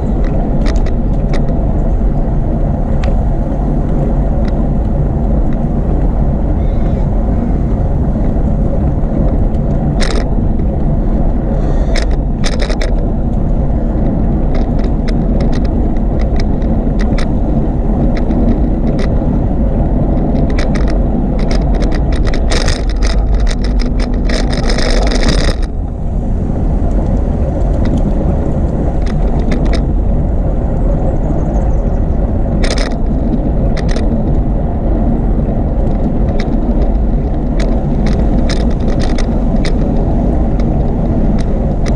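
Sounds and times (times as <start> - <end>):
bicycle rattling clicks: 0.0 - 41.9
wind and rolling noise: 0.0 - 41.9.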